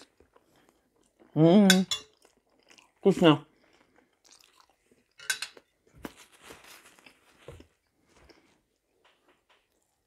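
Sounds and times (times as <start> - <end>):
person chewing food: 0.0 - 1.4, 2.0 - 10.0.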